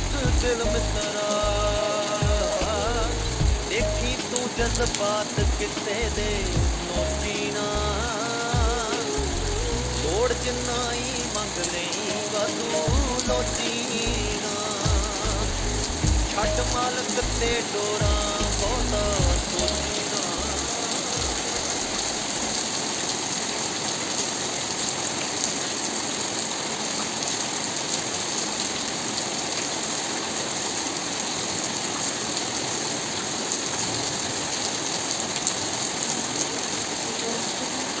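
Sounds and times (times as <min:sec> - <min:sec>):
rain splashing on standing water: 0:00.0 - 0:38.0.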